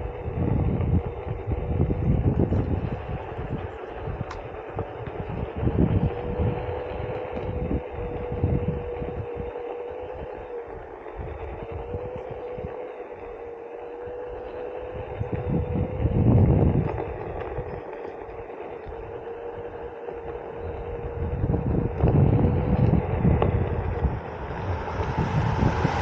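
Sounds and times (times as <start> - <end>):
electric motor whining: 0.0 - 26.0
wind buffeting microphone: 0.0 - 26.0.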